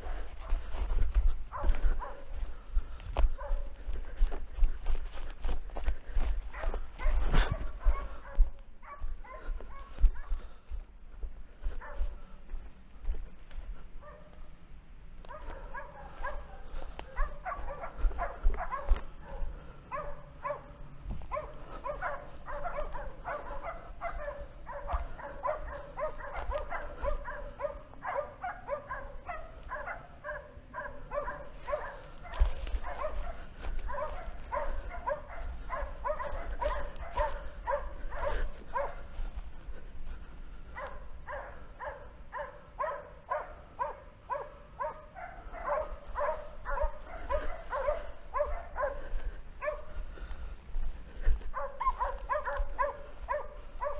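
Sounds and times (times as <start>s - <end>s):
dogs barking and baying: 0.0s - 53.9s.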